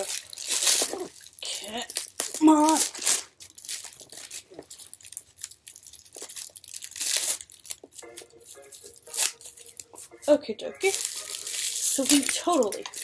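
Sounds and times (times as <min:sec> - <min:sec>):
plastic wrapping crinkling: 0:00.0 - 0:10.2, 0:10.8 - 0:13.0.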